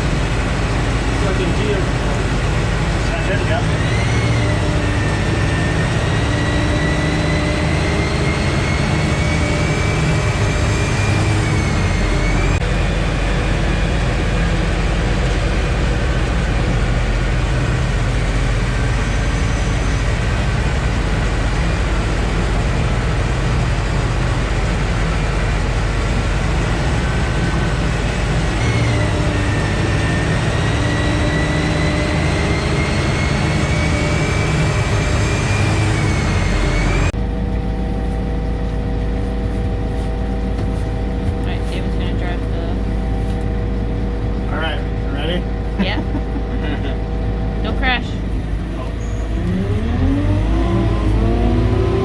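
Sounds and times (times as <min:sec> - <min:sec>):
high whine: 0:00.0 - 0:52.0
truck engine running: 0:00.0 - 0:52.0.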